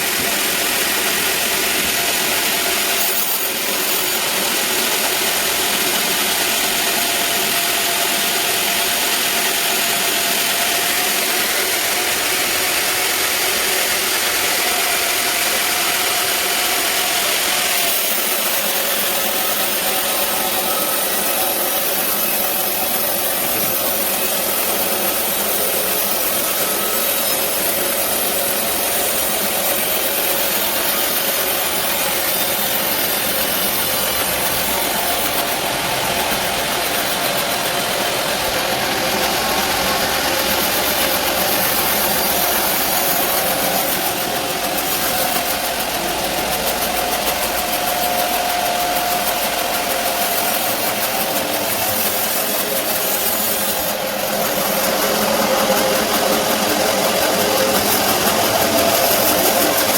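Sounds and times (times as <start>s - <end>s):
band sawmill humming: 0.0s - 59.9s.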